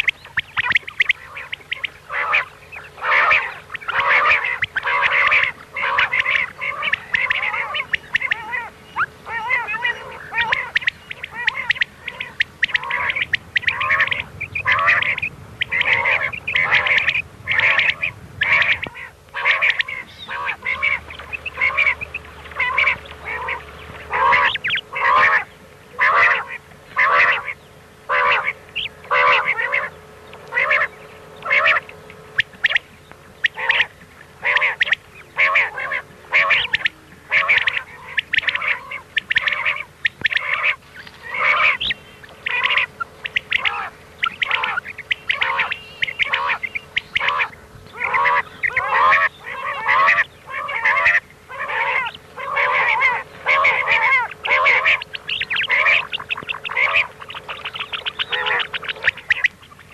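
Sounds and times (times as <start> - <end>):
faint steady hum: 0.0 - 59.9
quail calls: 0.0 - 59.9.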